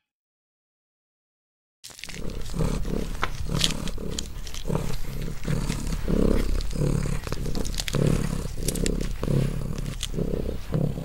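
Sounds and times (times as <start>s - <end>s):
porcupine chewing and gnawing: 1.9s - 11.0s.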